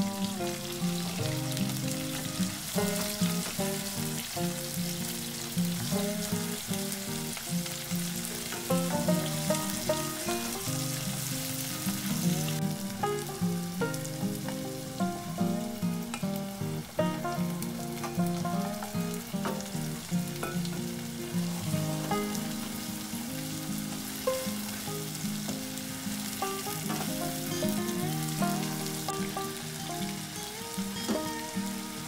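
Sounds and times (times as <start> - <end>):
onions sizzling in oil: 0.0 - 32.0.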